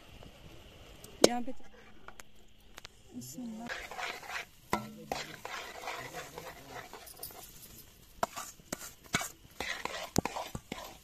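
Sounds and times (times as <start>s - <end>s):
rustling sizzle in pan: 0.0s - 11.0s.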